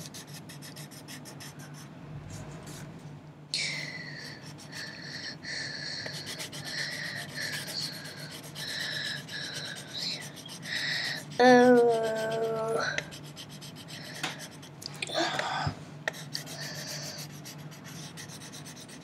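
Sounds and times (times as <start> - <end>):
pencil shading on paper: 0.0 - 1.8, 4.2 - 14.7, 16.1 - 19.0.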